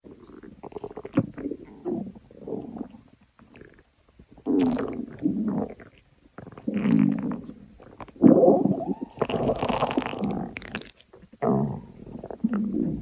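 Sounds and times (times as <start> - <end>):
stomach growling: 0.1 - 13.0.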